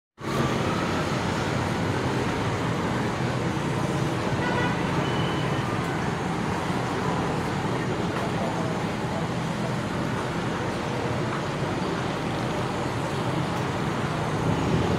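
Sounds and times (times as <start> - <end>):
road traffic hum: 0.2 - 14.9.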